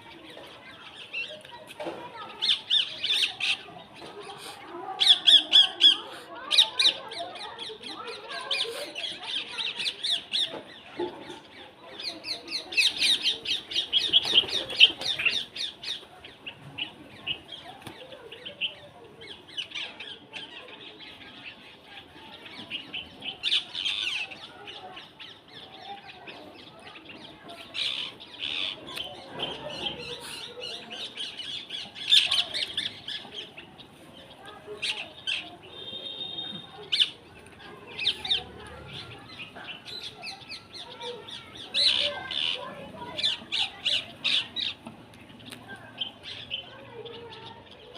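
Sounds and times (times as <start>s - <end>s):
birds chirping and squawking: 0.0s - 47.9s.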